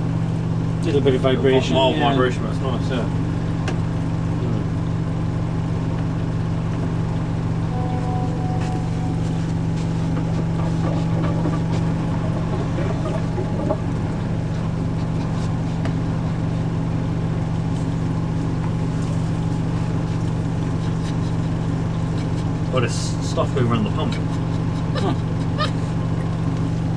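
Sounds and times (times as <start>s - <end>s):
washing machine spinning: 0.0s - 26.9s.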